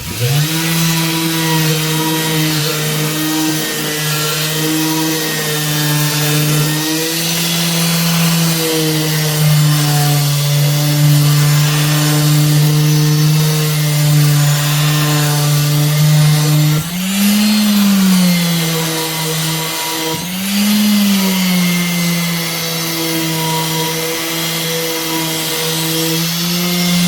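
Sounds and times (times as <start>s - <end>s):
electric sander on metal: 0.0s - 27.0s.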